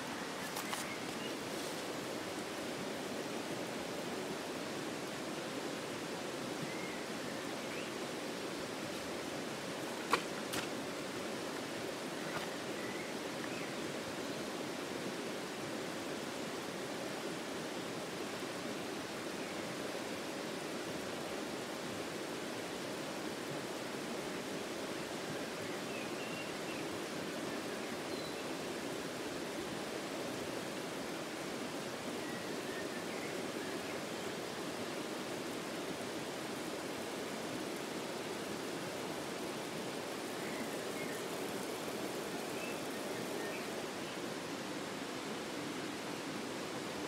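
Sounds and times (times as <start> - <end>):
stream water over rocks: 0.0 - 47.0.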